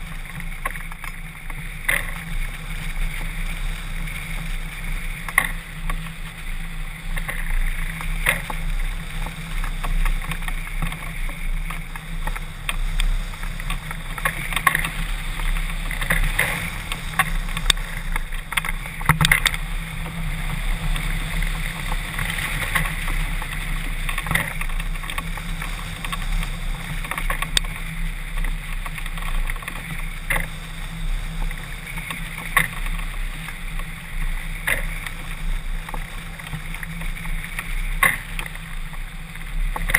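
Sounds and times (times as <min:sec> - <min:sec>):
low hum: 0:00.0 - 0:39.9
wind rushing over camera: 0:00.0 - 0:39.9.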